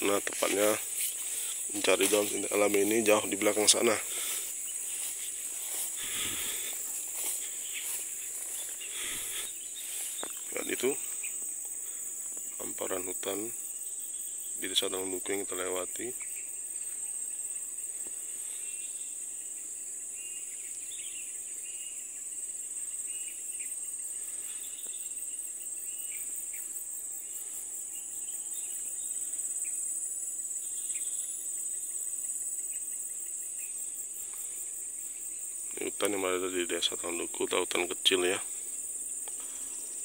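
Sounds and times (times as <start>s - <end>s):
insect chorus drone: 0.0s - 40.0s.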